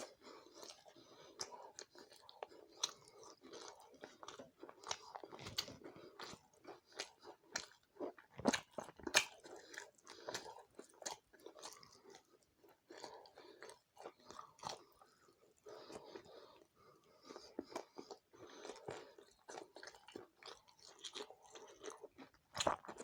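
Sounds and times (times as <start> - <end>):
chewing and biting food: 0.0 - 23.0.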